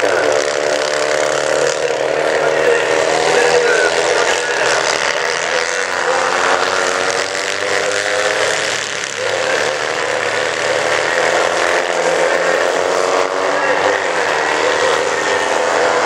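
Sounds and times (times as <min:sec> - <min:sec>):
kart engines revving past: 0:00.0 - 0:16.0.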